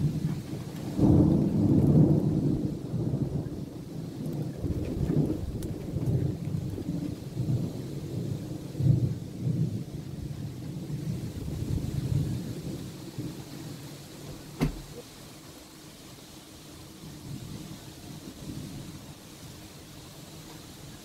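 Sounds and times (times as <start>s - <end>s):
thunder rumbling: 0.0s - 15.4s, 16.8s - 21.0s
rain falling: 0.0s - 21.0s.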